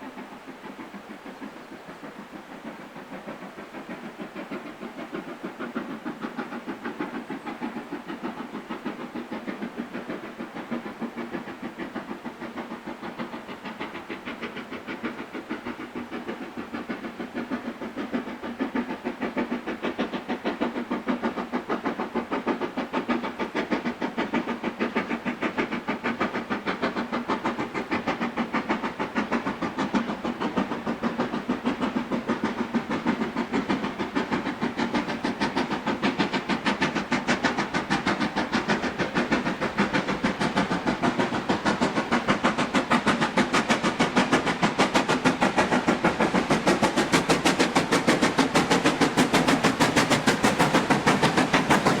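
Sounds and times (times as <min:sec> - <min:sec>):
steam locomotive exhaust beats: 0:00.0 - 0:52.0.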